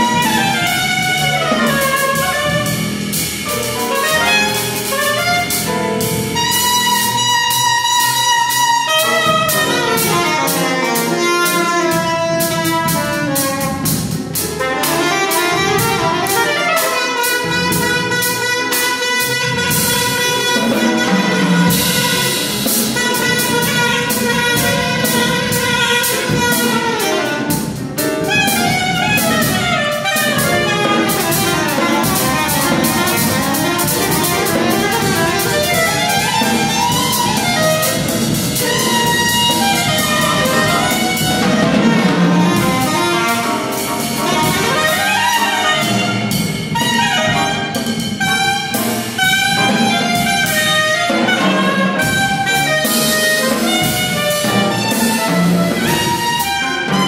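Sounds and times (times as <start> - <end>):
jazz drums and cymbals: 0.0 - 57.0
soprano saxophone playing fast lines: 0.0 - 57.0.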